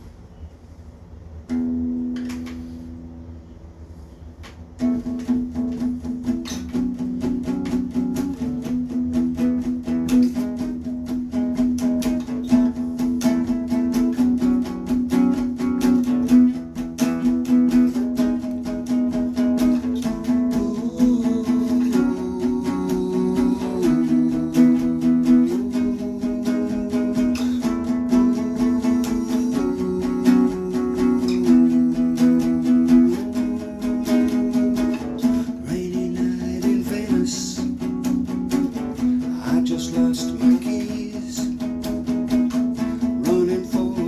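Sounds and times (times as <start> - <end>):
acoustic guitar playing: 1.5 - 3.2, 4.8 - 44.0.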